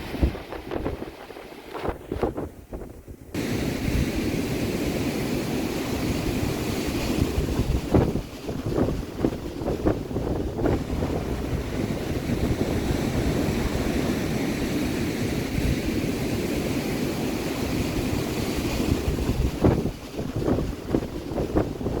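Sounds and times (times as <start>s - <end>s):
ocean surf: 0.0s - 2.8s, 3.4s - 22.0s
wind: 0.0s - 22.0s
wind buffeting microphone: 0.0s - 22.0s.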